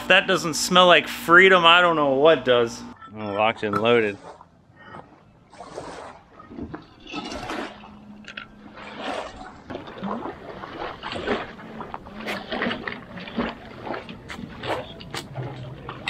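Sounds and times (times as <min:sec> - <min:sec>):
water lapping: 0:03.1 - 0:16.0.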